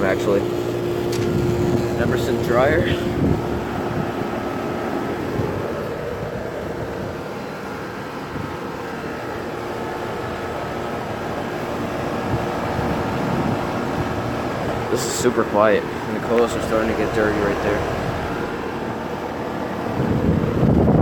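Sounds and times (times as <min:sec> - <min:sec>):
air conditioner unit humming: 0:00.0 - 0:21.0.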